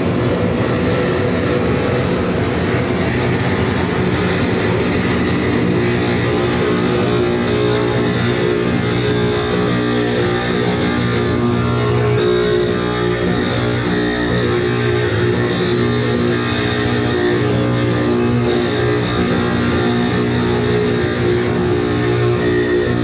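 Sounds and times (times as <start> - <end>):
rumbling electronic noise: 0.0 - 23.0
steady droning tones: 0.0 - 23.0.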